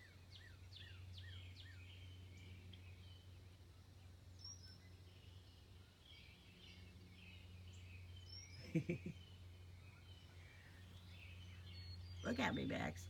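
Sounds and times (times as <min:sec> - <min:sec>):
faint bird chirps: 0:00.0 - 0:13.0
steady low hum: 0:00.0 - 0:13.0.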